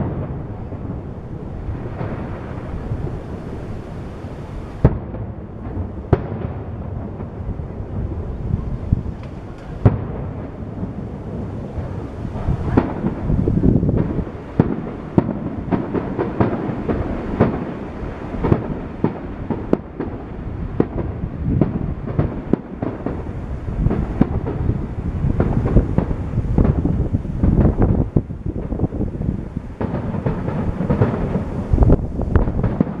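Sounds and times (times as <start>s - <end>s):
fireworks bursting: 0.0s - 33.0s
low rumble of booms: 0.0s - 33.0s.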